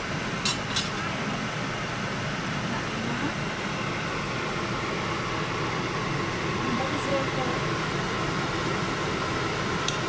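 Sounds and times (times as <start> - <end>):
range hood fan whooshing: 0.0 - 10.0.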